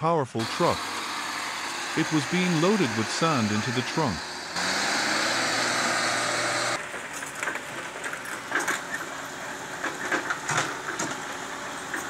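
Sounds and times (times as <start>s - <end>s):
dump truck engine running hard: 0.4s - 12.0s
excavator engine running: 0.4s - 12.0s.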